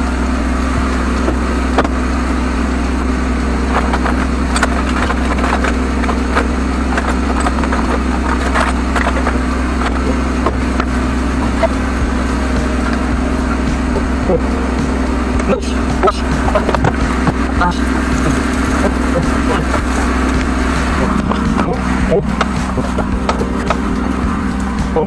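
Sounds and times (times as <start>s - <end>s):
sewer jetter engine running: 0.0s - 25.0s.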